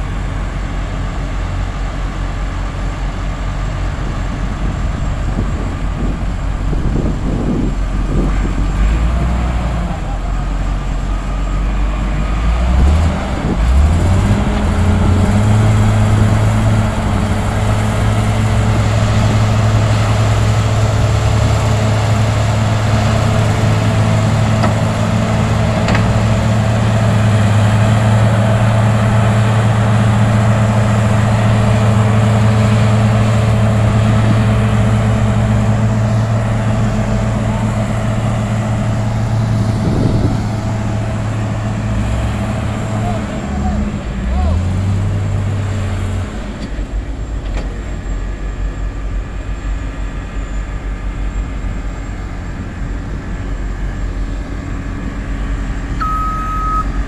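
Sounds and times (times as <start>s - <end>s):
heavy diesel engines under load: 0.0s - 57.0s.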